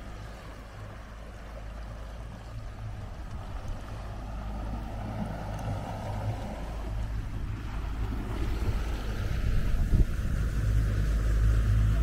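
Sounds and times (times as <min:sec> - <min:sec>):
motorboat engine running: 0:00.0 - 0:12.0
water rushing: 0:00.0 - 0:12.0.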